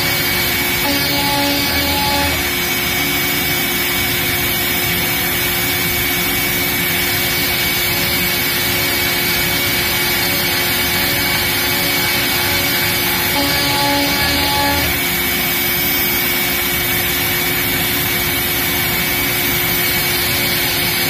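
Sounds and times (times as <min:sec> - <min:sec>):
high spindle whine: 0:00.0 - 0:21.0
router cutting wood: 0:00.0 - 0:21.0.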